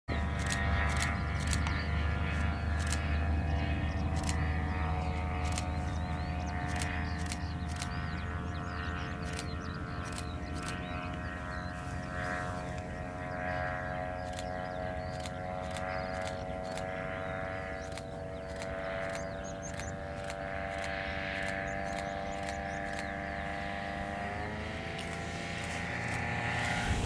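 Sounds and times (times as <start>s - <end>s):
ultralight airplane engine buzzing drone: 0.1s - 27.0s.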